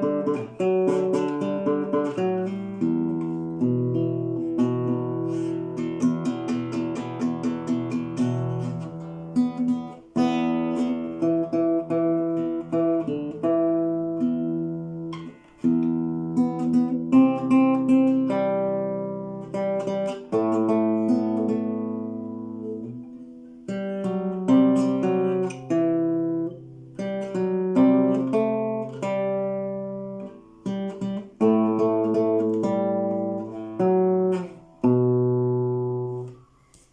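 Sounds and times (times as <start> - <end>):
acoustic guitar melody: 0.0 - 36.9.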